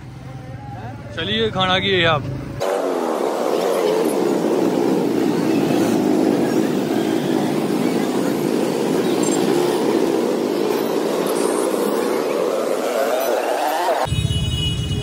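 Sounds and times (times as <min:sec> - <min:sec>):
vehicle engine droning: 0:00.0 - 0:14.2
street traffic: 0:00.0 - 0:15.0.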